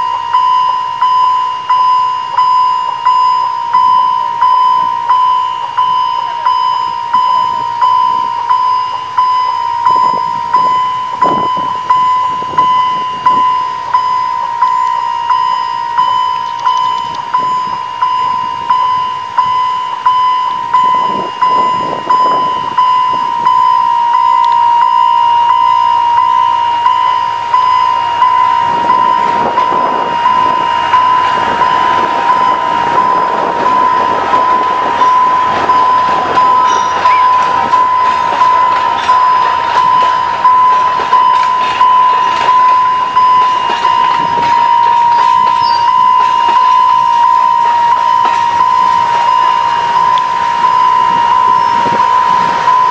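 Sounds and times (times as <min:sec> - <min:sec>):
level crossing bell ringing: 0:00.0 - 0:52.9
train rumbling: 0:00.0 - 0:52.9.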